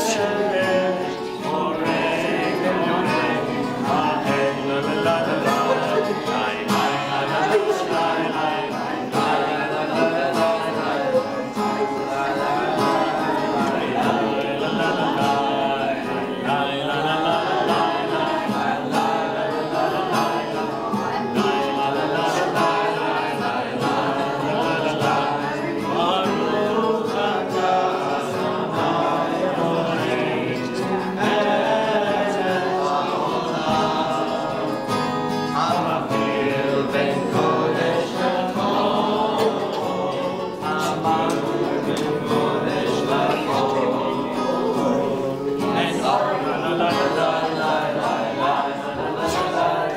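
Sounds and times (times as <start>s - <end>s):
group singing led by cantor: 0.0s - 49.9s.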